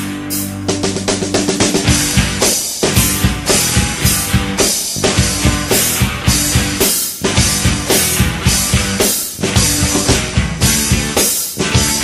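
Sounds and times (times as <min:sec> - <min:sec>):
drum kit beat: 0:00.0 - 0:12.0
rock band playing: 0:00.0 - 0:12.0.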